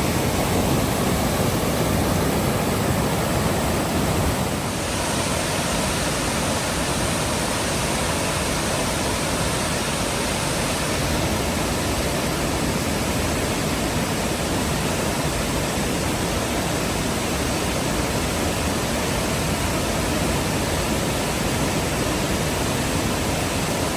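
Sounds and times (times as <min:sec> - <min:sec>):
waterfall rushing: 0:00.0 - 0:23.9.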